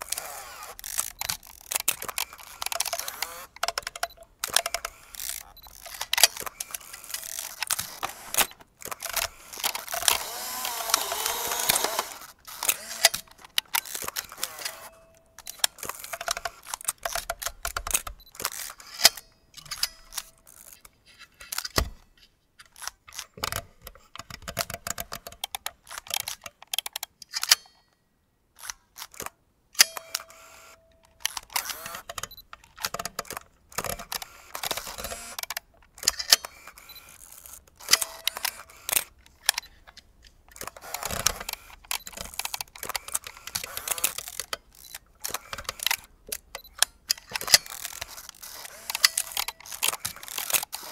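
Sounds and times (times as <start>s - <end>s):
camera shutter clicks: 0.0s - 21.9s, 28.6s - 39.8s, 40.6s - 50.9s.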